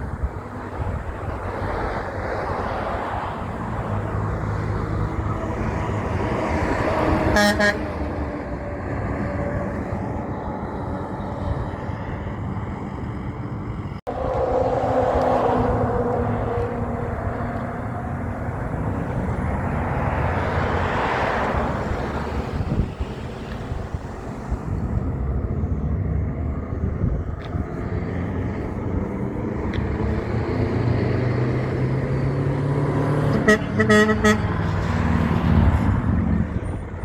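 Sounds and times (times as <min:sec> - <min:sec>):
road traffic: 0:00.0 - 0:37.0
truck engine: 0:00.0 - 0:37.0.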